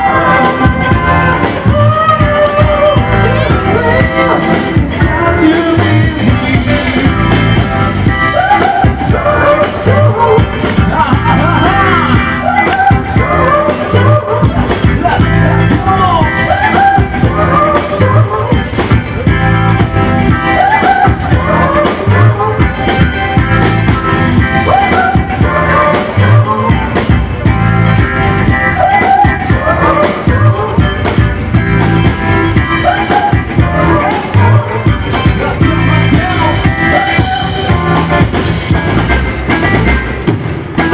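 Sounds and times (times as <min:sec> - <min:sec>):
person singing: 0:00.0 - 0:23.7, 0:24.4 - 0:31.6, 0:32.5 - 0:38.5
drum beat: 0:00.0 - 0:40.9
guitar: 0:00.0 - 0:40.9
rock song: 0:00.0 - 0:40.9.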